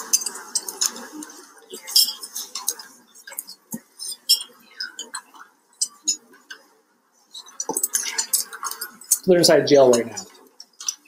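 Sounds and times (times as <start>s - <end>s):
dishes and cutlery clinking: 0.0s - 6.7s, 7.3s - 11.0s.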